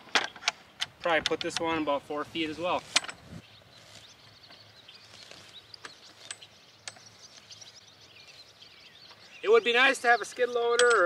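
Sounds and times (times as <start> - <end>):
faint birdsong chirping: 0.0 - 11.0.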